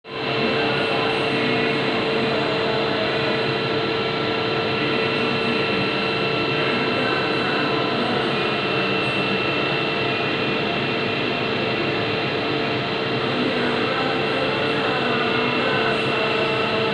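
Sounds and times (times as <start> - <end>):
milling machine cutting with whine: 0.1 - 16.9.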